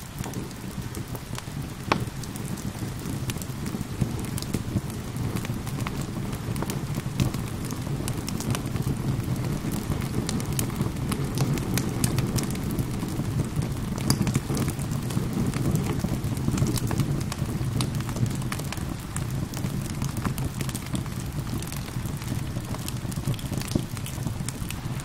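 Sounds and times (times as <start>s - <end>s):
fireplace fire crackling: 0.0s - 25.0s
rain rushing: 0.0s - 25.0s.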